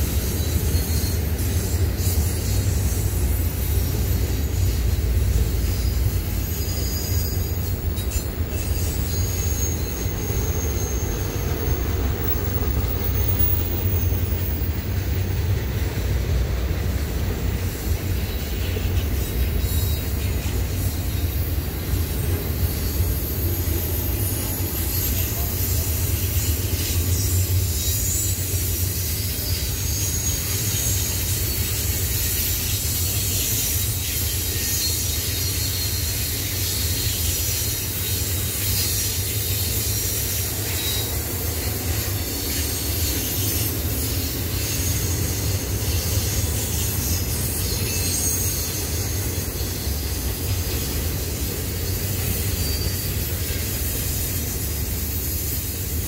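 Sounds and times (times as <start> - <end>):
wheel squeal: 0.0 - 15.7, 17.1 - 56.0
high hiss: 0.0 - 56.0
train wheels rumbling on rail: 0.0 - 56.0.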